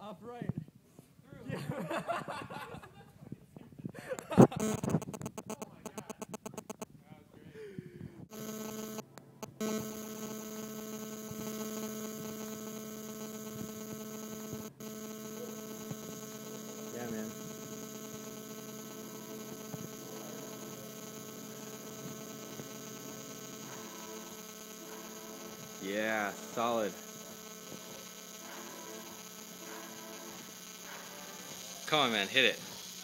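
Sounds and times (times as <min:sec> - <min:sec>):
buzzy electrical hum: 0:04.2 - 0:06.9, 0:08.3 - 0:33.0.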